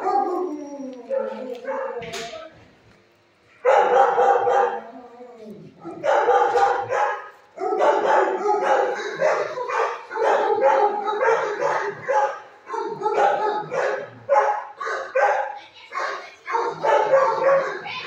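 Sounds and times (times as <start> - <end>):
dogs barking: 0.0 - 2.3, 3.6 - 5.1, 5.8 - 18.0.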